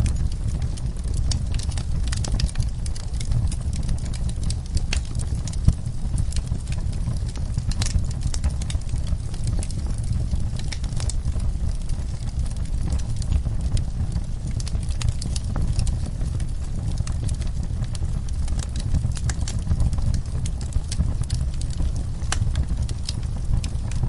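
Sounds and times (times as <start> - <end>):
low rumble of fire: 0.0 - 24.0
wood fire crackling: 0.0 - 24.0.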